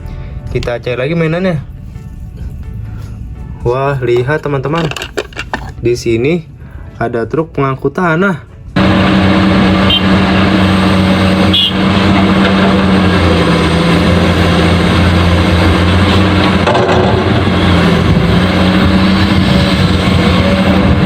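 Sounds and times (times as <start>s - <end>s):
truck engine running: 0.0s - 7.0s, 8.4s - 21.0s.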